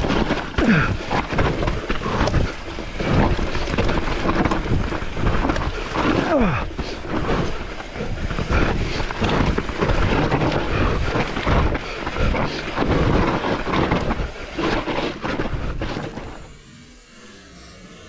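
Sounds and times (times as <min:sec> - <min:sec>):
bike rattling over rocks: 0:00.0 - 0:16.6.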